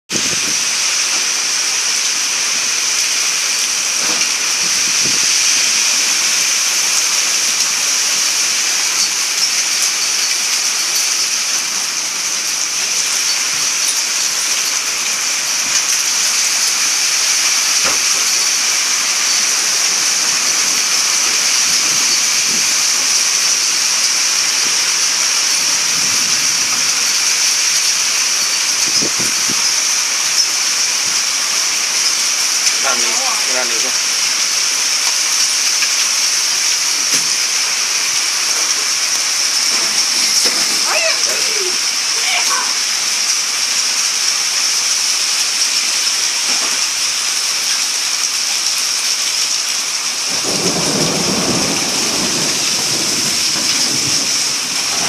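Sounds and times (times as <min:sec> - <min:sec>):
torrential rain pouring: 0:00.1 - 0:55.0.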